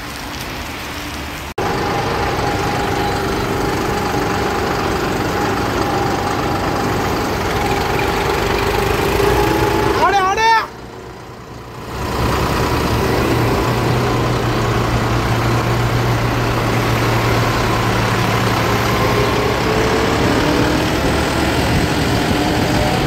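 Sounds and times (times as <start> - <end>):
tractor engine running: 1.6 - 23.0.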